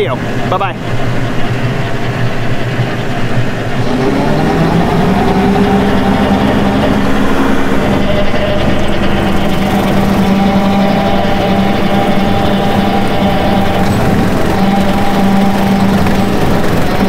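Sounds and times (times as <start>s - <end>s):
tractor diesel engine under load: 0.0s - 17.0s
rotary cutter through grass: 1.4s - 17.0s.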